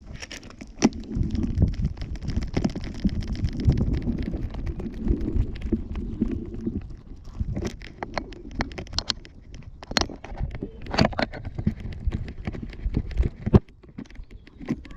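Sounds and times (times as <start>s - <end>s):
camera rubbing and bumping: 0.0s - 14.9s
sharp clicks and knocks: 0.1s - 14.9s.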